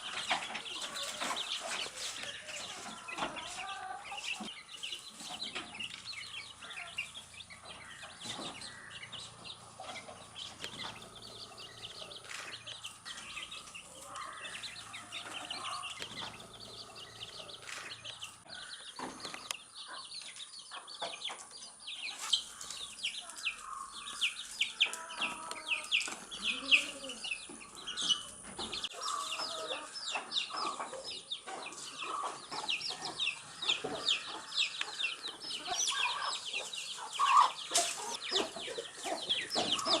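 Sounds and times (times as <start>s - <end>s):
baby chicks peeping: 0.0s - 40.0s.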